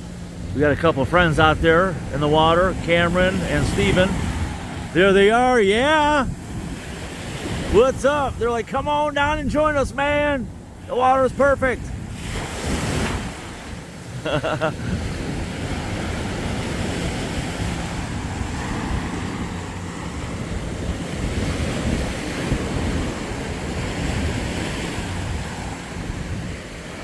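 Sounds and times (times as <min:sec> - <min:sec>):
surf washing onto beach: 0:00.0 - 0:27.0
wind buffeting microphone: 0:00.0 - 0:27.0.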